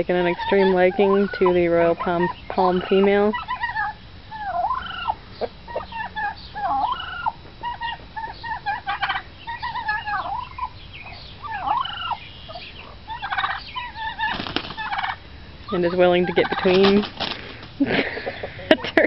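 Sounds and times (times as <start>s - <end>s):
turkey gobbling: 0.1s - 19.0s
turkeys yelping and chirping: 0.1s - 19.0s.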